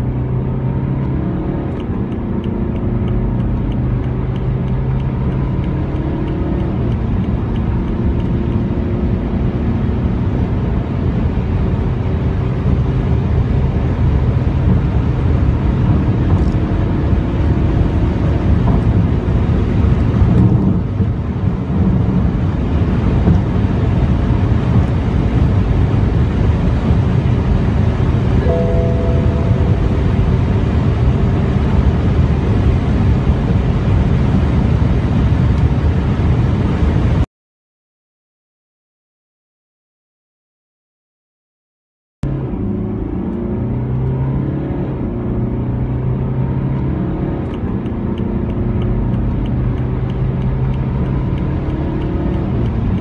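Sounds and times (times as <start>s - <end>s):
car engine droning: 0.0s - 37.2s, 42.2s - 53.0s
road and wind noise: 0.0s - 37.3s, 42.2s - 53.0s.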